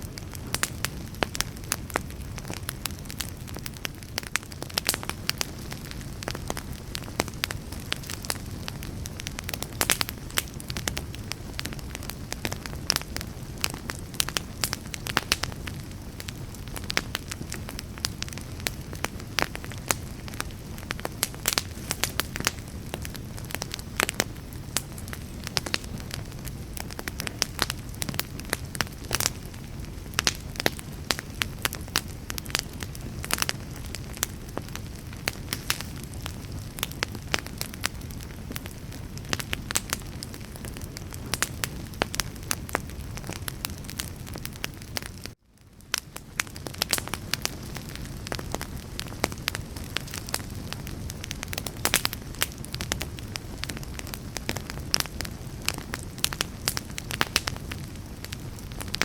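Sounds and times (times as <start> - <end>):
burning wood crackling and popping: 0.0 - 59.0
low rumble of flame: 0.0 - 59.0.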